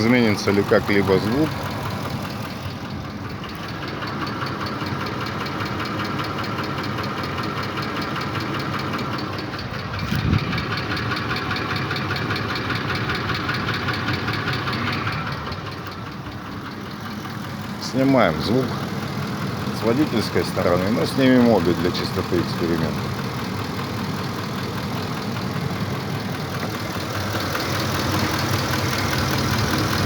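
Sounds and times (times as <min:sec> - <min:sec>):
engine idling with ticking knock: 0:00.0 - 0:30.0.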